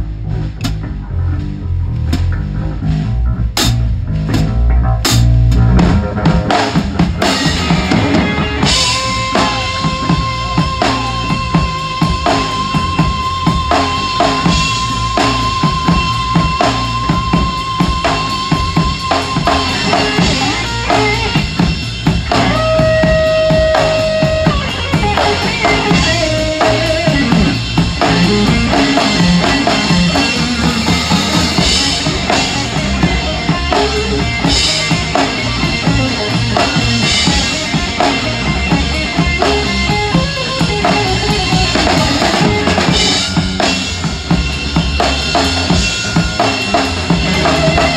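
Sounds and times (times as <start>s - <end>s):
amplified guitar: 0.0s - 47.9s
drum kit beat: 0.0s - 47.9s
rock band playing live: 0.0s - 47.9s.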